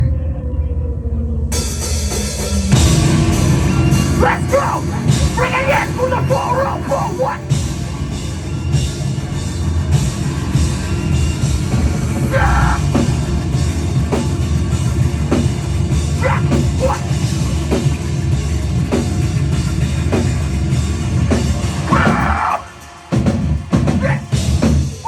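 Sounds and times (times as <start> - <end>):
drum kit: 1.5 - 25.0
heavy rock band playing: 1.5 - 25.0.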